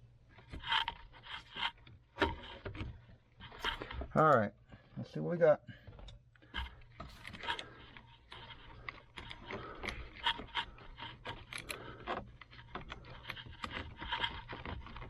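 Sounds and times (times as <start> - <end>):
plastic clicks and scrapes: 0.3 - 5.0, 5.8 - 15.0.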